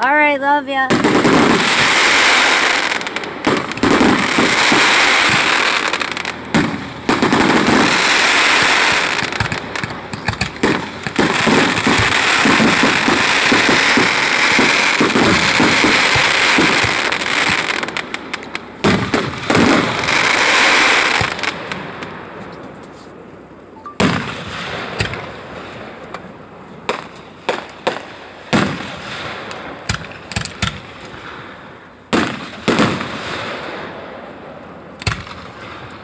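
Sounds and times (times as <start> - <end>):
fireworks bangs and crackling: 0.0 - 23.3, 24.0 - 36.0.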